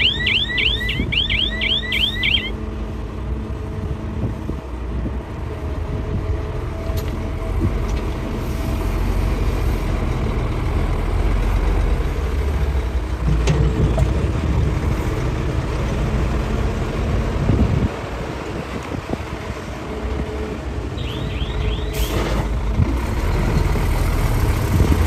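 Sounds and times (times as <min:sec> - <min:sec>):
excavator diesel engine rumbling: 0:00.0 - 0:25.0.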